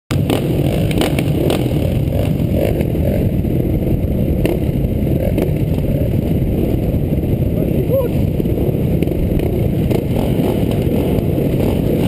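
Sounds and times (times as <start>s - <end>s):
motocross engines revving: 0.1s - 12.0s.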